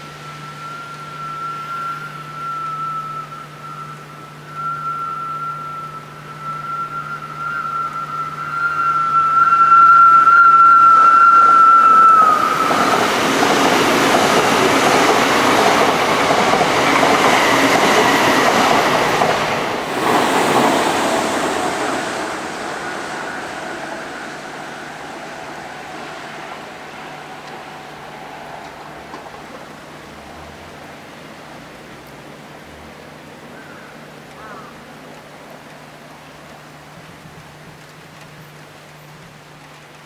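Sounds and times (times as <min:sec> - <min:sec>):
electric train whine: 0:00.0 - 0:40.0
train wheels rumbling on rail: 0:00.0 - 0:40.0.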